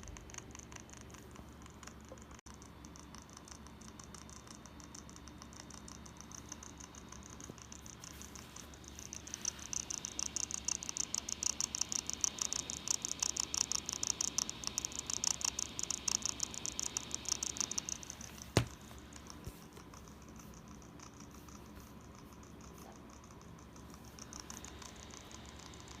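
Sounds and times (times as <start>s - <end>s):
faint steady hiss: 0.0s - 26.0s
laptop fan rapid rattling tick: 0.0s - 26.0s.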